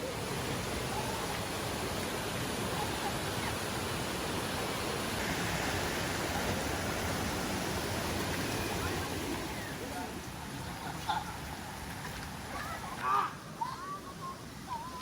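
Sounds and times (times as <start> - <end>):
stream water rushing over rocks: 0.0 - 15.0.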